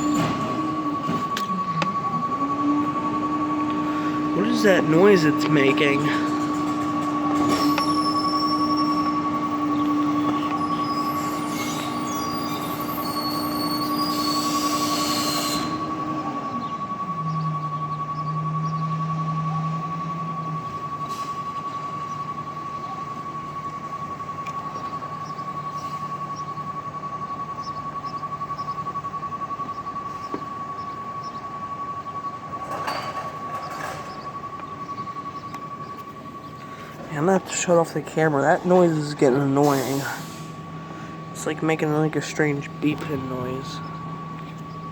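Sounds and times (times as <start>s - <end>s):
high-pitched truck beeping: 0.0s - 44.9s
low mechanical hum: 0.0s - 44.9s.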